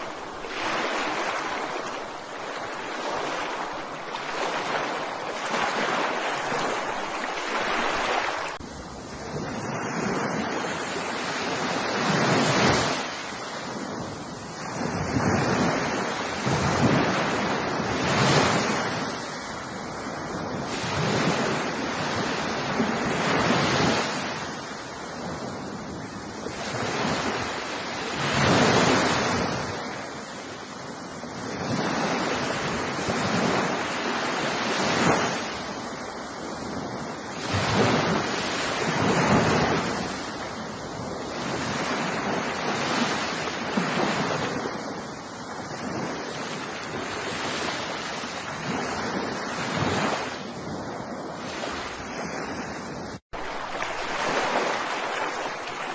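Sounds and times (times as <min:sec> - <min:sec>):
waves breaking on shore: 0:00.0 - 0:55.9.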